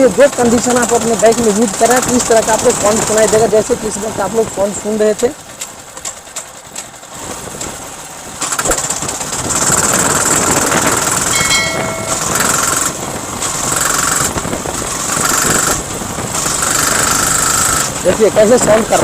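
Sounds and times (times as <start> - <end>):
engine knocking: 0.0 - 19.0
motorcycle engine running: 0.0 - 19.0.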